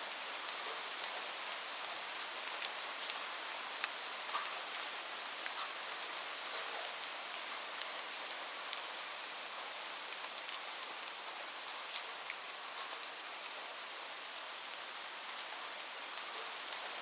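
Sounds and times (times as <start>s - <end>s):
light rain falling: 0.0s - 17.0s
raindrops ticking on a surface: 0.2s - 17.0s.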